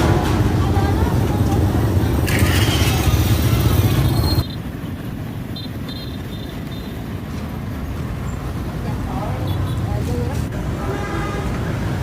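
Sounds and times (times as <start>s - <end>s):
loud low traffic rumble: 0.0s - 12.0s.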